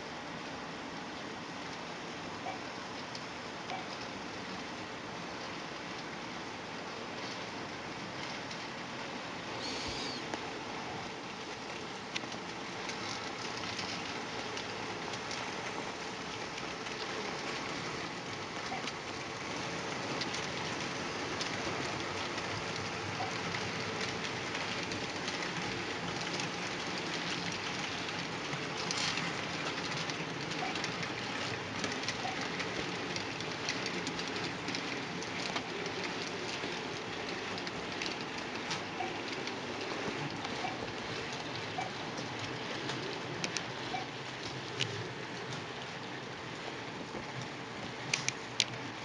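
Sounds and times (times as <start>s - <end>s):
model train rolling on rails: 0.0s - 49.0s.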